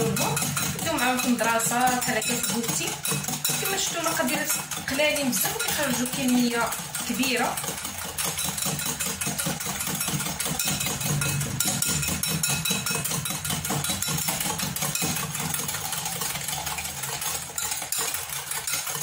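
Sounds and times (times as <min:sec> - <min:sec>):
whisk clicking against glass bowl: 0:00.0 - 0:19.0.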